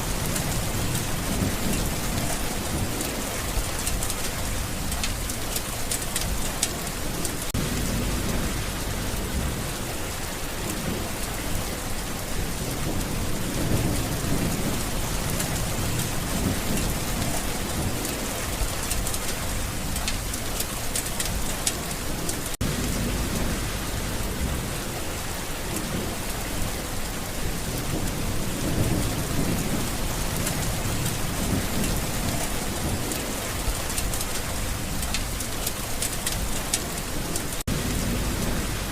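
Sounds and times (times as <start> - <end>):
low rolling thunder: 0.0 - 5.5, 6.2 - 20.4, 21.2 - 38.9
steady rain falling: 0.0 - 38.9.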